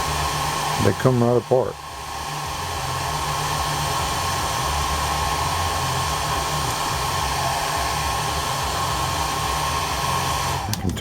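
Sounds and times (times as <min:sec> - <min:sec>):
hair dryer running: 0:00.0 - 0:10.9.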